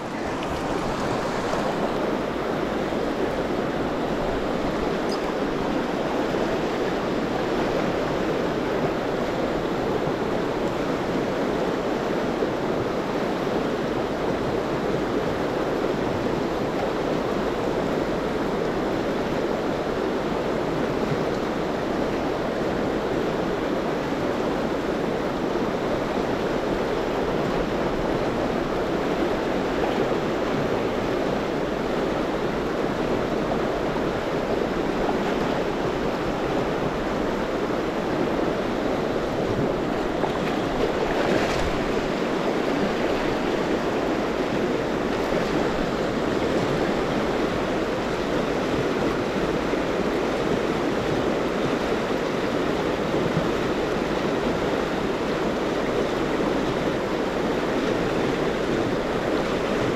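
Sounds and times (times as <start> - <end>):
fast river water rushing: 0.0 - 59.9.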